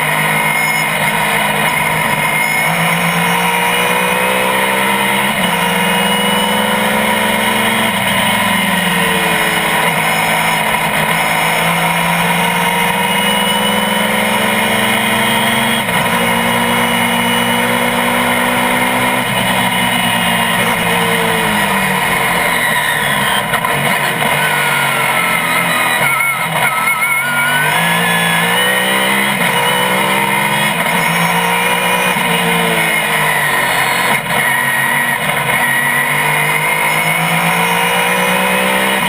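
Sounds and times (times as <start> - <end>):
racing car engine revving: 0.0 - 39.0.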